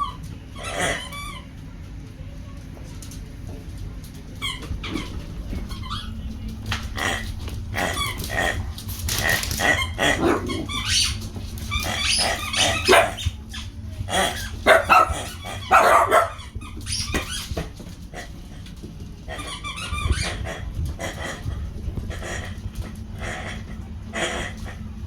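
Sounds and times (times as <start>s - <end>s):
small dogs barking and growling: 0.0s - 1.6s, 4.5s - 25.0s.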